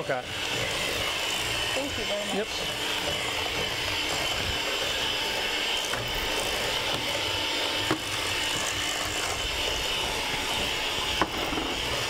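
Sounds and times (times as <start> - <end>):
electric hand mixer running: 0.0 - 12.0.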